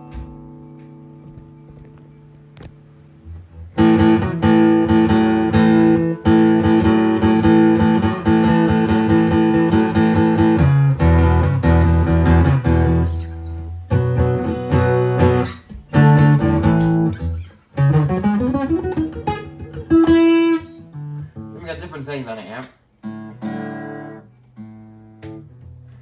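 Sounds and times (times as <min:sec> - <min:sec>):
amplified acoustic guitar: 0:00.0 - 0:26.0.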